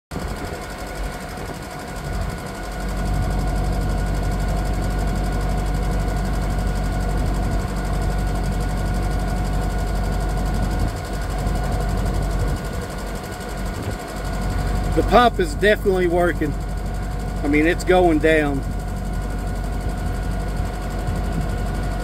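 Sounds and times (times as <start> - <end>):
truck engine drone: 0.1 - 22.0
vacuum pump whine: 0.1 - 22.0.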